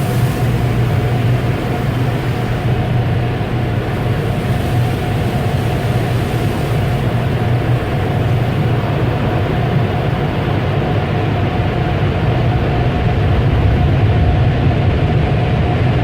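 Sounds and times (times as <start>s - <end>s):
car wash machinery rushing: 0.0s - 16.0s
low hum: 0.0s - 16.0s.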